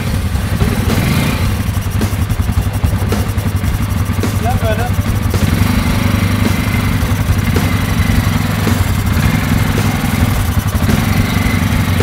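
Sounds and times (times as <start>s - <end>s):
atv engine running at low revs: 0.0s - 12.0s.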